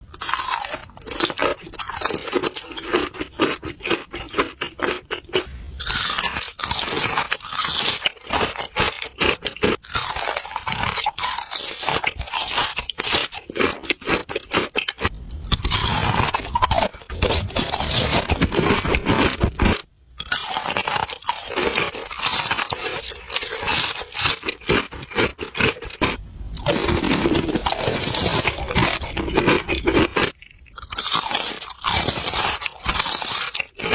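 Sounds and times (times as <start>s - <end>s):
crunching food close up: 0.0s - 33.9s
noisy chewing: 0.0s - 33.9s.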